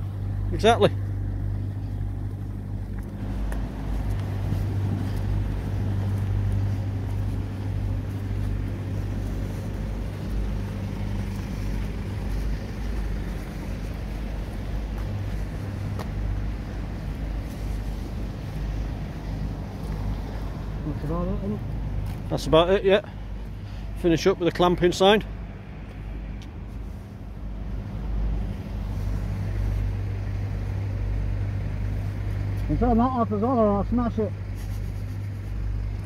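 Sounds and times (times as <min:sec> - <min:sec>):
street background rumble: 0:00.0 - 0:36.0.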